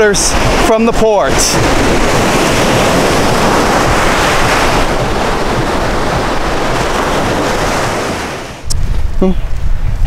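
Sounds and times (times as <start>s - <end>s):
small waves washing onto beach: 0.0s - 8.7s
wind buffeting microphone: 0.0s - 10.0s.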